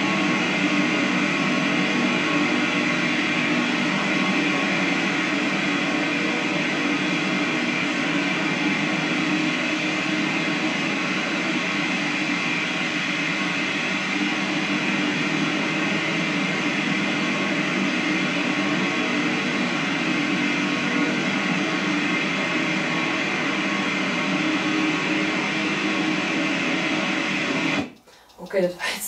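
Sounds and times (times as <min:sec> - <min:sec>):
static hiss: 0:00.0 - 0:29.0.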